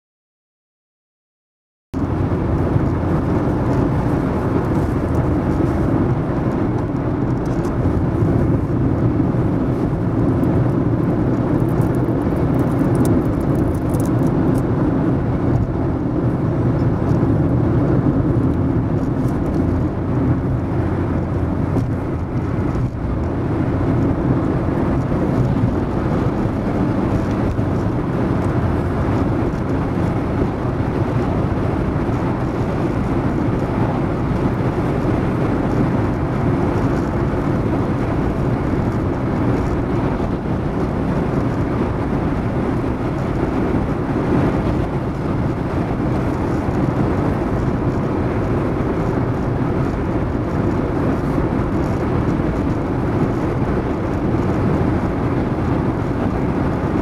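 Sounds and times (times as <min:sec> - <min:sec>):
car road noise at speed: 0:02.0 - 0:57.0.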